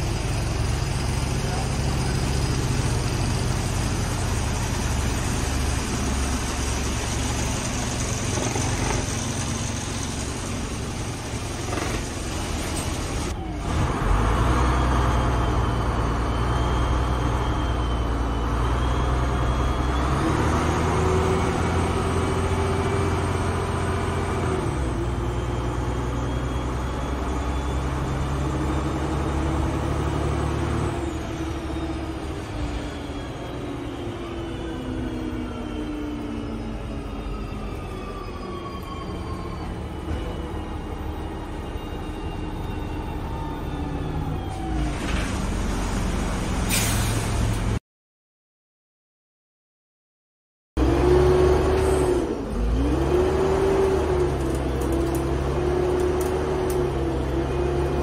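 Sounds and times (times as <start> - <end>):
bus diesel engine changing gears: 0.0 - 47.8, 50.8 - 58.0.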